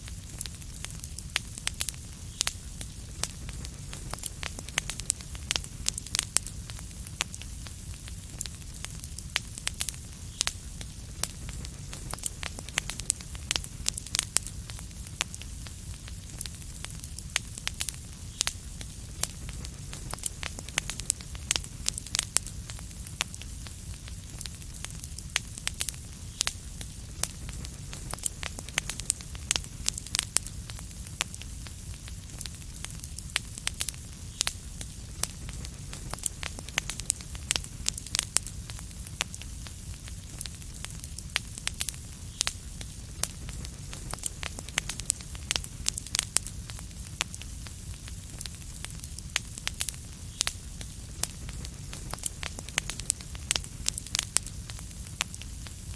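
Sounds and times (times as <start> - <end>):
fire crackling and popping: 0.0 - 55.9
low rumble of flames: 0.0 - 55.9.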